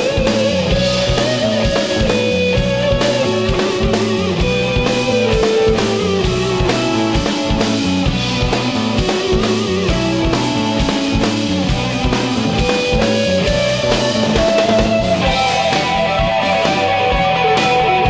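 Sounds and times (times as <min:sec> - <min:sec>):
instrumental rock music: 0:00.0 - 0:18.0.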